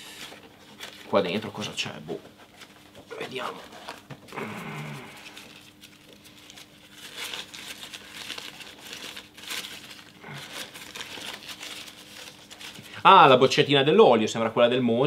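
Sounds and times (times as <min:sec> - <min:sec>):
paper wrapping crinkling: 0:00.0 - 0:13.6.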